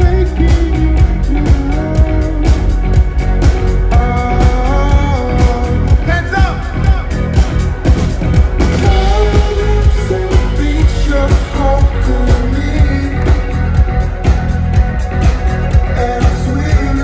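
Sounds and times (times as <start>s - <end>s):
person singing: 0.0s - 2.9s, 3.8s - 7.2s, 8.8s - 14.4s, 15.2s - 17.0s
bass-heavy drum beat: 0.0s - 17.0s
electric guitar: 0.0s - 17.0s.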